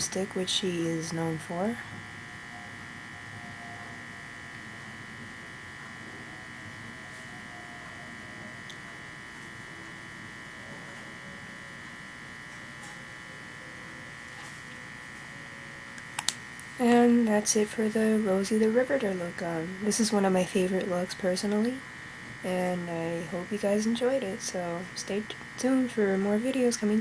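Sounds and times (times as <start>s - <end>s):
electrical buzz with high whine: 0.0s - 27.0s.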